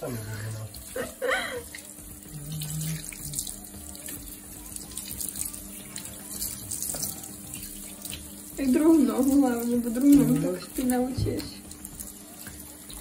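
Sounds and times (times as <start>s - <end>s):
shower water running into bathtub: 0.0s - 13.0s.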